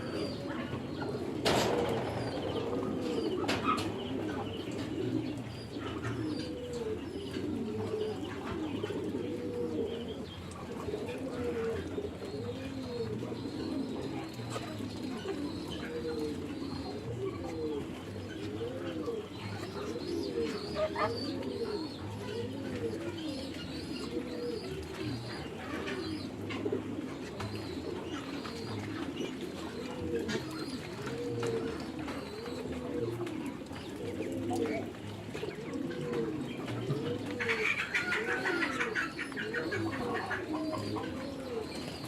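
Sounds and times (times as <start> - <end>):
pigeons cooing: 0.0 - 42.0.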